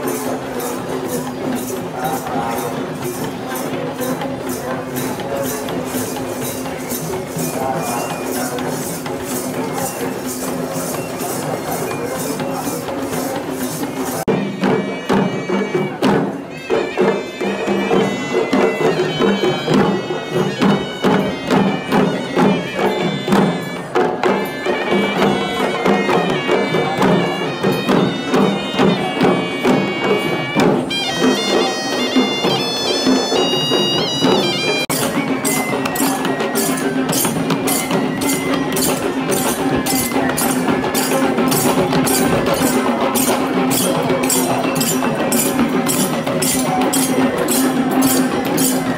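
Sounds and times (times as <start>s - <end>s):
hand drums beating: 0.0s - 48.9s
reed pipe melody: 0.0s - 48.9s.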